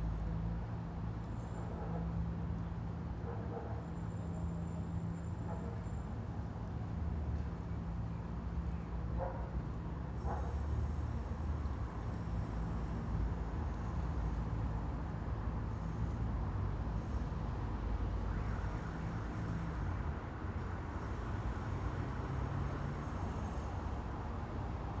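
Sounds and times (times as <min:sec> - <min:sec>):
faint engine hum: 0:00.0 - 0:25.0
rumble of passing vehicles: 0:00.0 - 0:25.0.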